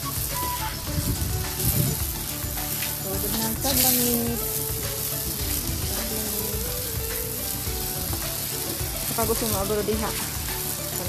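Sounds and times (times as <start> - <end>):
hose water splashing on tiles: 0.0 - 11.0.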